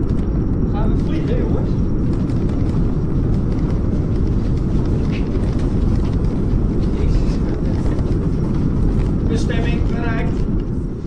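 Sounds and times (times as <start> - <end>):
spaceship engine rumble: 0.0 - 11.0.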